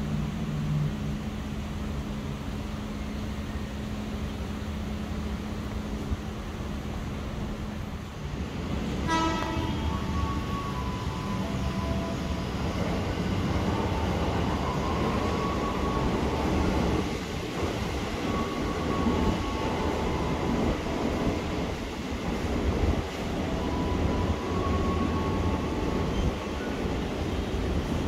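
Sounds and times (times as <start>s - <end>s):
electric train rumble: 0.0s - 28.0s.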